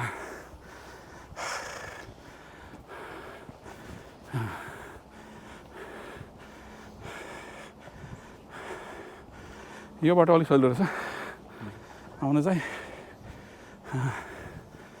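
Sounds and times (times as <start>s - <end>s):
person breathing hard: 0.0s - 10.0s, 10.6s - 15.0s.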